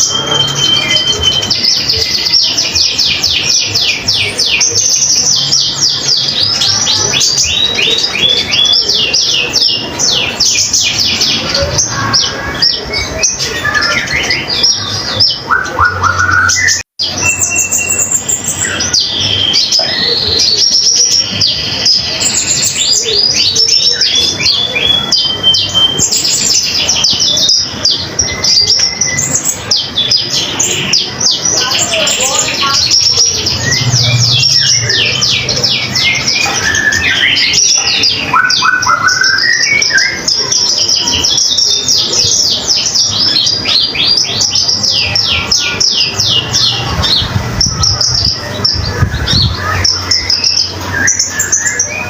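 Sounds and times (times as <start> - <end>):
songbird singing chattering notes: 0.0 - 52.0.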